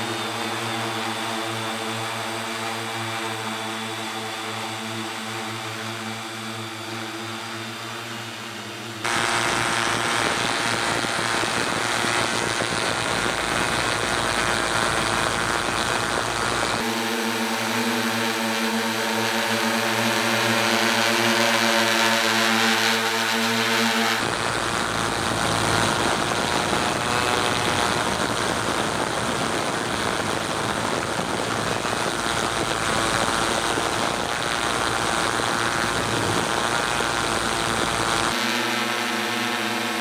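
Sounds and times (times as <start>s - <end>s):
drone motors humming: 0.0s - 40.0s.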